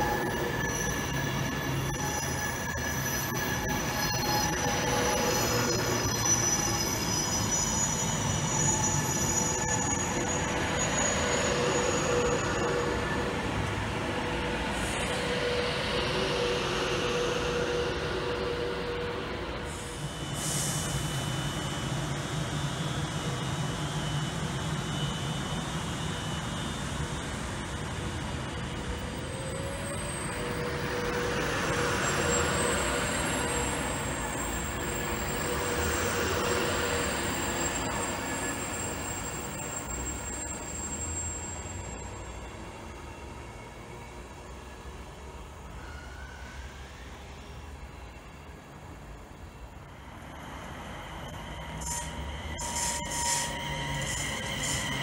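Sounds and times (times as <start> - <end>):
faint high whine: 0.0 - 55.0
train wheels squealing on rails: 0.0 - 55.0.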